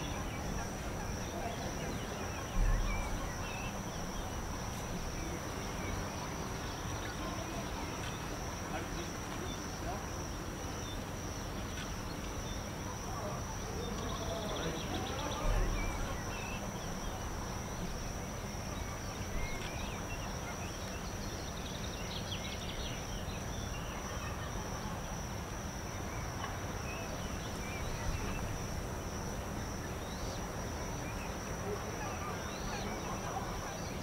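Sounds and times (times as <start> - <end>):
faint chirps: 0.0 - 28.8
constant high whine: 0.0 - 34.0.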